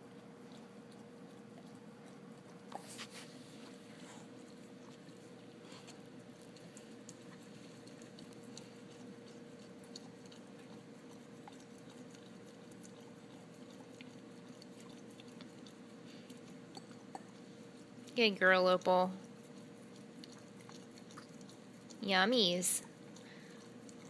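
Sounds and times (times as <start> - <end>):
dog licking and smacking: 0.0 - 24.0
faint hum: 0.0 - 24.0.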